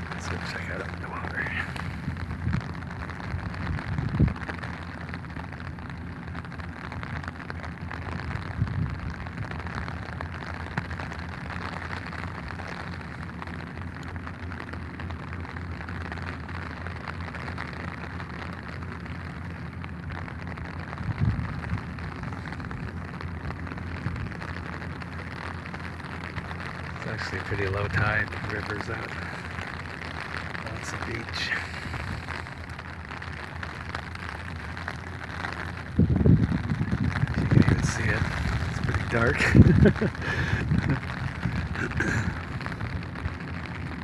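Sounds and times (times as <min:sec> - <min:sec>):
rain pattering on an umbrella: 0:00.0 - 0:44.0.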